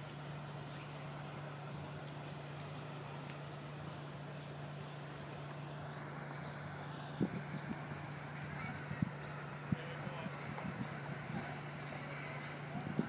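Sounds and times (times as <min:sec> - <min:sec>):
faint hiss: 0:00.0 - 0:13.0
outboard motor drone: 0:00.0 - 0:13.0.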